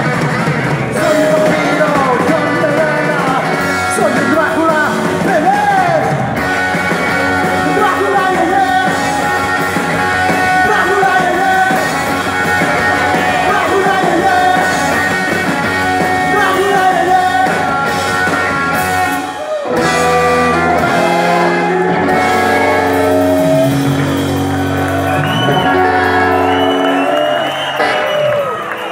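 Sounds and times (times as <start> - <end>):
live rock band playing: 0.0 - 28.9
shouted lead vocal: 0.9 - 6.4, 7.4 - 27.4.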